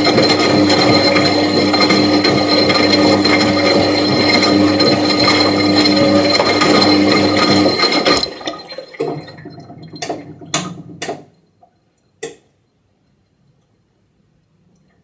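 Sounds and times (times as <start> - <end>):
washing machine humming: 0.0 - 12.4.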